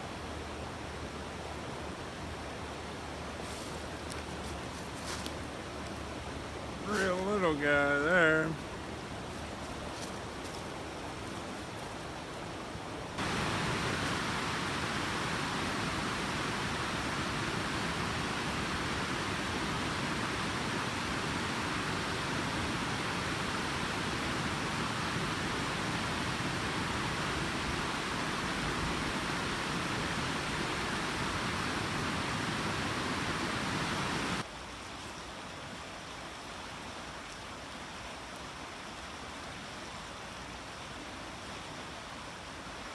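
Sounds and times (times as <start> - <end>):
creek water rushing: 0.0 - 34.8.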